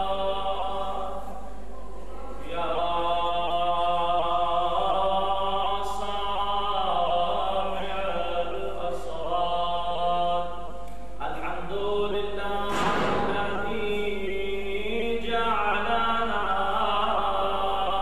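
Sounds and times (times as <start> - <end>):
man chanting through microphone: 0.0 - 18.0.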